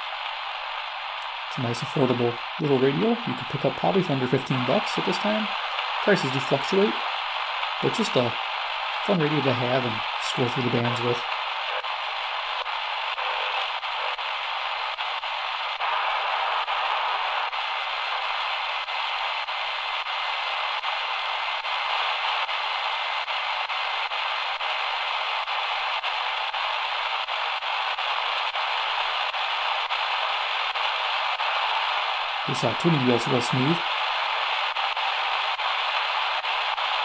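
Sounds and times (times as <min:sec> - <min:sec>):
radio static hiss with crackles: 0:00.0 - 0:37.0.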